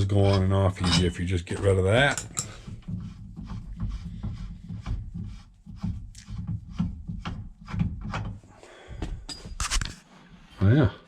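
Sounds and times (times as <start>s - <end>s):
rubbing scrapes: 0.0s - 8.6s, 9.5s - 10.6s.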